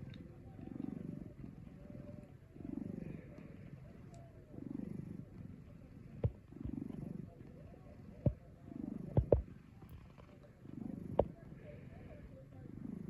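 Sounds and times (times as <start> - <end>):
cat snoring: 0.0 - 13.0.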